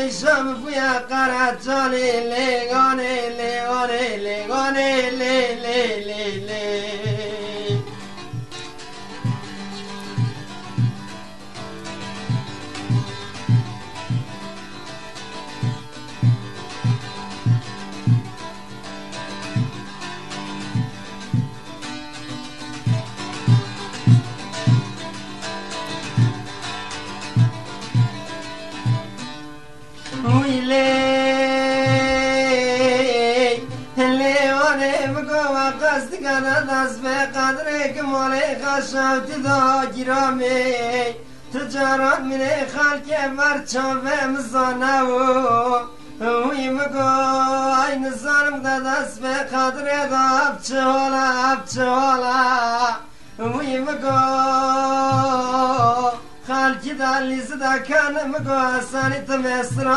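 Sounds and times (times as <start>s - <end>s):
man singing: 0.0s - 21.6s, 30.0s - 59.9s
plucked string instrument: 0.0s - 59.9s.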